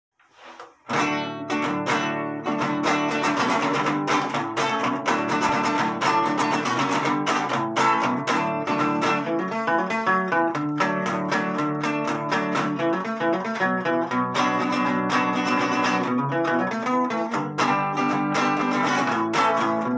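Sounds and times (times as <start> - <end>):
classical guitar strummed: 0.8 - 19.9.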